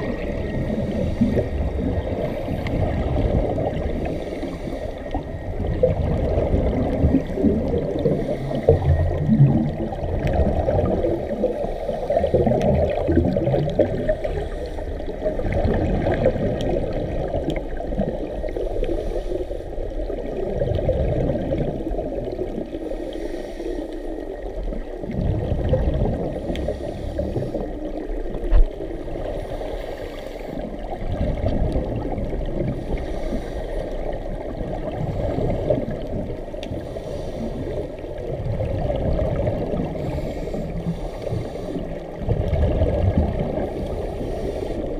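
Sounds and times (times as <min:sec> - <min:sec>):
muffled underwater regulator bubbles: 0:00.0 - 0:23.6, 0:24.2 - 0:44.9.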